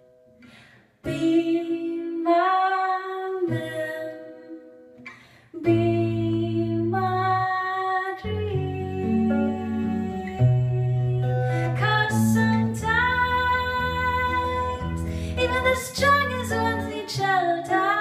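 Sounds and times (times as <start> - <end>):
plucked guitar: 0.0 - 18.0
woman singing a ballad: 1.0 - 4.8, 5.5 - 18.0.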